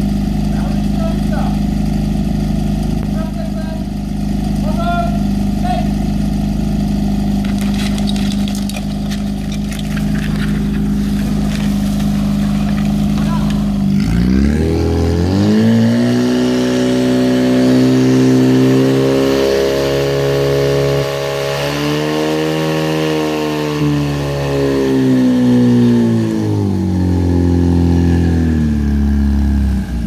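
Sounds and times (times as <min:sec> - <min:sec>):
pump engine running at high revs: 0:00.0 - 0:30.0.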